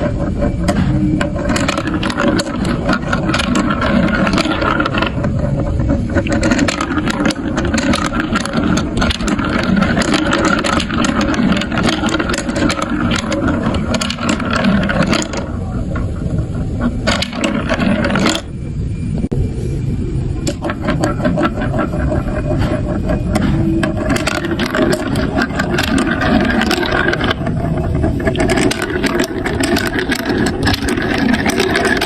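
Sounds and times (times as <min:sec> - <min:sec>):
marbles clicking on track: 0:00.0 - 0:18.5, 0:20.4 - 0:32.0
marbles rolling on track: 0:00.0 - 0:18.6, 0:20.4 - 0:32.0.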